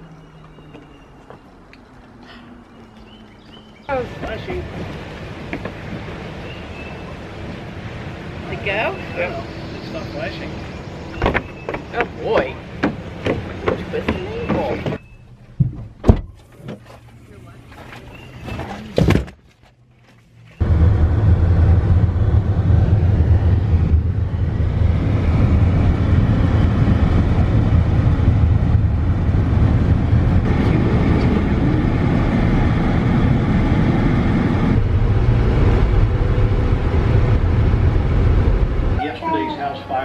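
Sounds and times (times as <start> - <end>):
car interior road rumble: 0.0 - 40.0.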